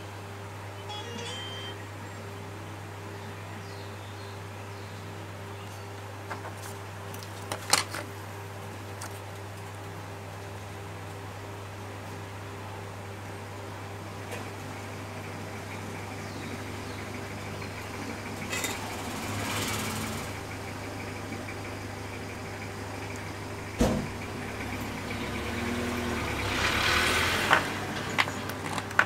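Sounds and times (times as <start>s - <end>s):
steady background hum: 0.0s - 26.4s.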